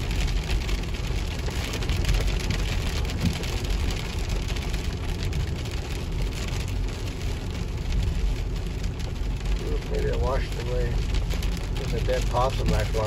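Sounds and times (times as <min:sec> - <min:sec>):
rain on vehicle roof: 0:00.0 - 0:13.0
vehicle rolling on wet road: 0:00.0 - 0:13.0.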